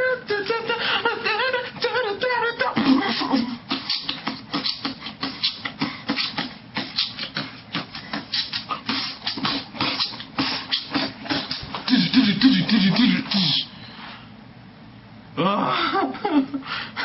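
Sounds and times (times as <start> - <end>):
man beatboxing: 0.0 - 13.7.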